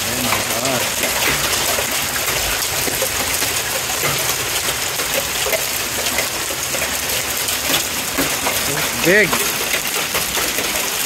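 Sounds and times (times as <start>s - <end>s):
hailstones ticking on pavement: 0.0s - 11.0s
hiss of falling hail and rain: 0.0s - 11.0s.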